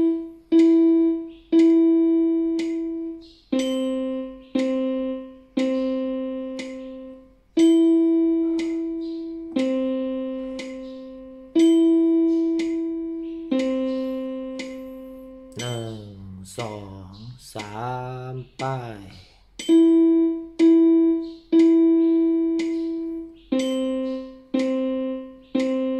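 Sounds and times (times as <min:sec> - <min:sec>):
keyboard notes: 0:00.0 - 0:25.9
metronome click: 0:00.0 - 0:25.9.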